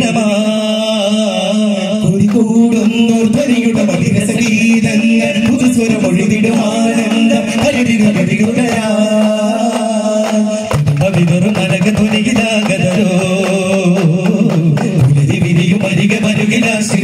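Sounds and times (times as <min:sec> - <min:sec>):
frame drums in steady rhythm: 0:00.0 - 0:17.0
person singing: 0:00.0 - 0:17.0.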